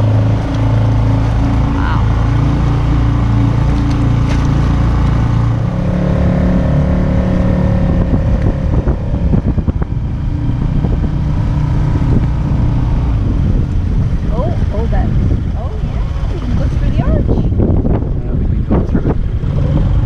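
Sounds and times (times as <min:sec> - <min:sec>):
boat motor running: 0:00.0 - 0:20.0
wind buffeting microphone: 0:00.0 - 0:20.0.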